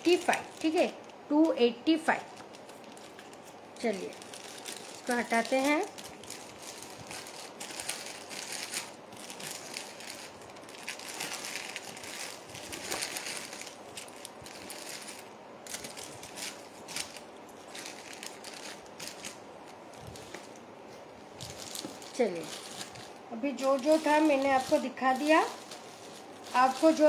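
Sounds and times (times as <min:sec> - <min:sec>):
packaging crinkling and rustling: 0:00.0 - 0:27.0.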